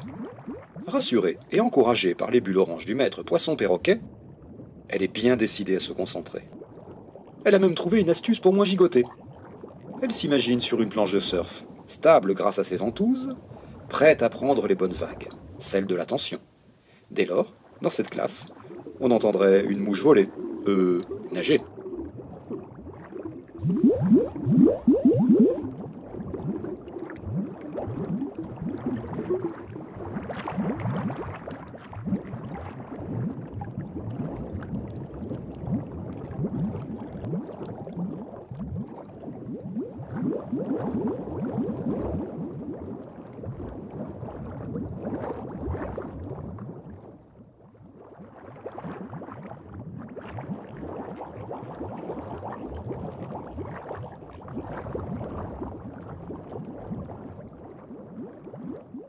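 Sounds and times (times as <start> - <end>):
underwater bubbles gurgling: 0.0 - 16.3, 17.1 - 59.0.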